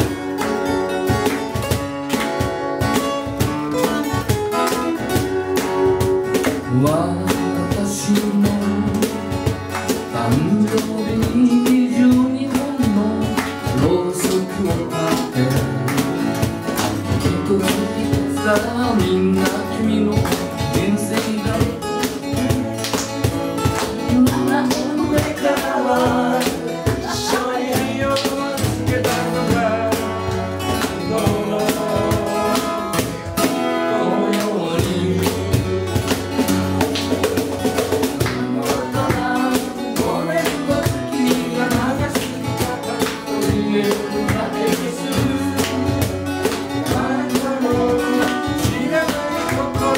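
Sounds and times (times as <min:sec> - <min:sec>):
acoustic guitars strumming: 0:00.0 - 0:49.9
cajon beat: 0:00.0 - 0:49.9.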